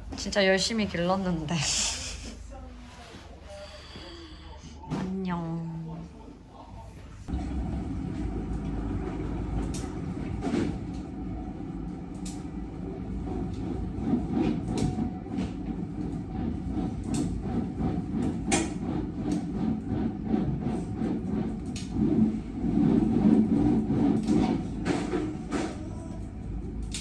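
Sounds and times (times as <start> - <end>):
low fan rumble: 0.0 - 27.0.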